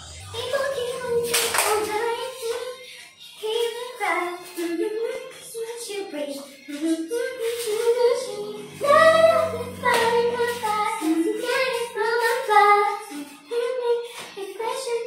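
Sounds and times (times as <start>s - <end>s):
sparse backing music: 0.0s - 15.0s
woman singing pop melody: 0.0s - 15.0s.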